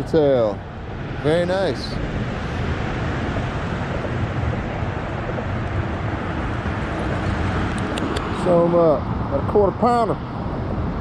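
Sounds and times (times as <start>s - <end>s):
steady rumbling: 0.0s - 11.0s.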